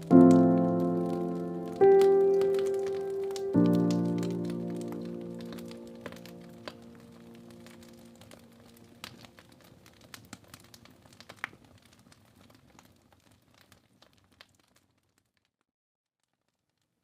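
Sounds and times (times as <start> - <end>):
wood fire crackling: 0.0 - 15.5.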